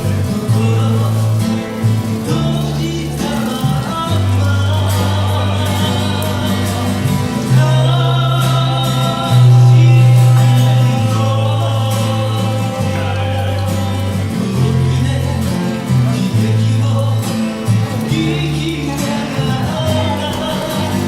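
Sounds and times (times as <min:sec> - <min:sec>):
guitar: 0:00.0 - 0:21.0
long held bass notes: 0:00.0 - 0:21.0
person singing: 0:00.0 - 0:21.0.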